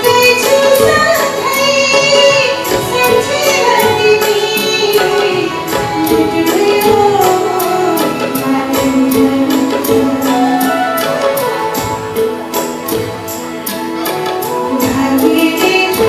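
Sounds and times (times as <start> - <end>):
hand drum beat: 0.0 - 16.0
live band playing: 0.0 - 16.0
violins: 0.0 - 16.0.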